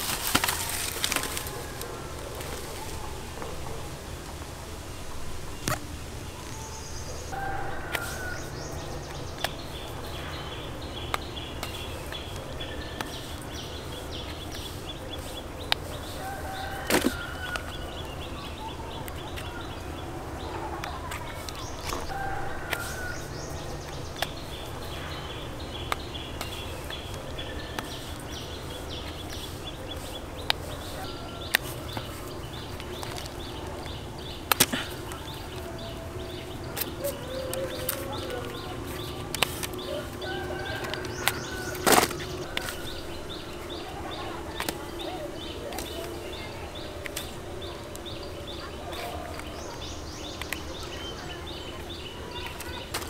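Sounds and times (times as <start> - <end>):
birds calling: 0.0 - 53.0
low background noise: 0.0 - 53.0.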